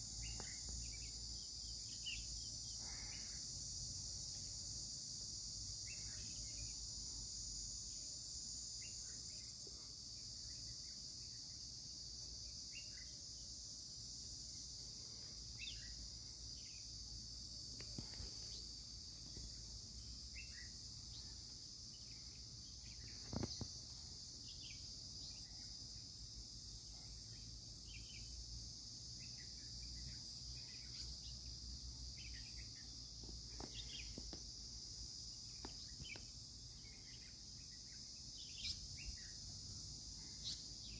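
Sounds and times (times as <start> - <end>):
insects droning: 0.0 - 40.9
short insect chirps: 0.0 - 40.9.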